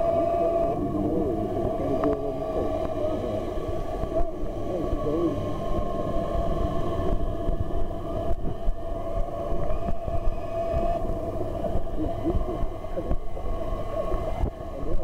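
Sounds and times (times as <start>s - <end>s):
muffled rumble of churned water: 0.0s - 15.0s
underwater electric motors whining: 0.0s - 15.0s.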